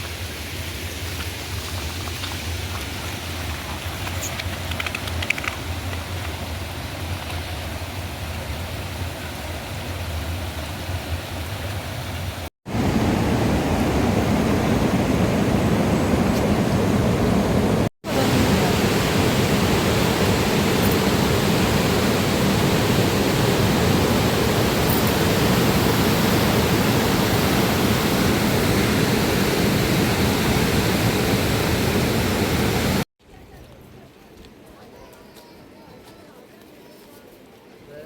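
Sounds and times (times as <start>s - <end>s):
water rushing: 0.0s - 33.1s.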